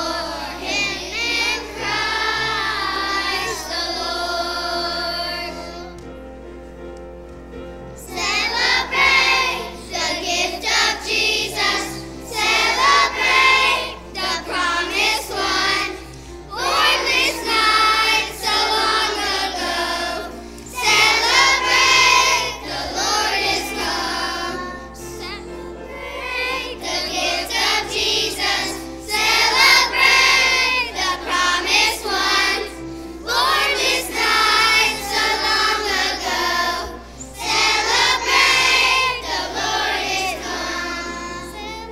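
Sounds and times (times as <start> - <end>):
children's choir singing: 0.0 - 6.2, 7.8 - 41.9
musical accompaniment: 0.0 - 41.9.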